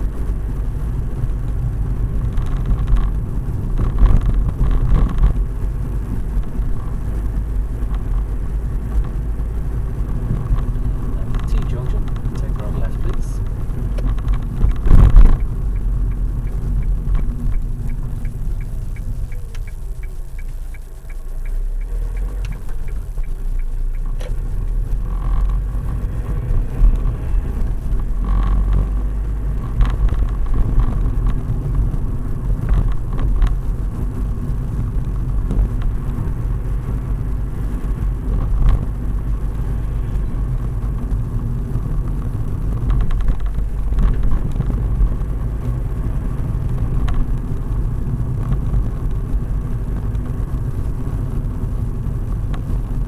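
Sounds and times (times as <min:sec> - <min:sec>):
car engine and tyre rumble: 0:00.0 - 0:53.0
turn signal ticking: 0:00.0 - 0:53.0.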